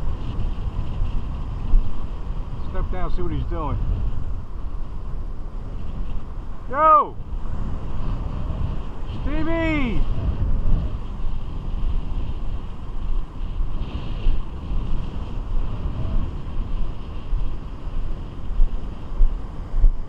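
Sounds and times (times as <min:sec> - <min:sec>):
surf washing on beach: 0:00.0 - 0:20.0
wind buffeting microphone: 0:00.0 - 0:20.0.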